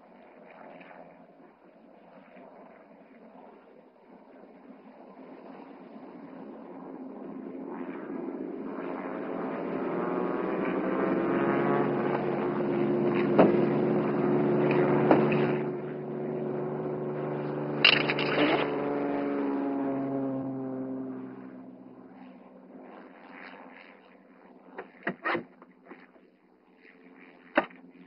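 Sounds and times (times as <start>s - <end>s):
propeller aircraft engine running: 0.0s - 28.0s.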